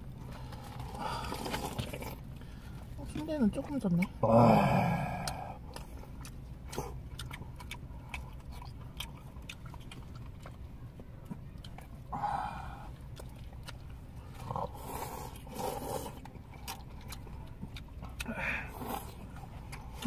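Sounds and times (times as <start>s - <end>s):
people chewing with mouth clicks: 0.0s - 20.0s.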